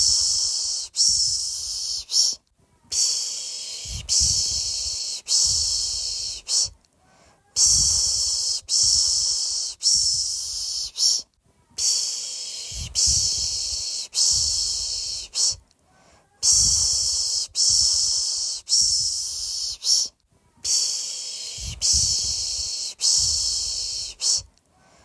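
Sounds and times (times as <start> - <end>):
person shushing: 0.0 - 6.8, 7.4 - 15.6, 16.3 - 24.5.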